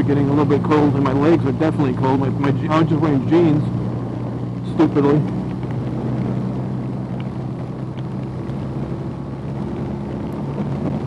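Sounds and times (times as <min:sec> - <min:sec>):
motorcycle engine cruising: 0:00.0 - 0:11.0
wind and wet road hiss: 0:00.5 - 0:11.0.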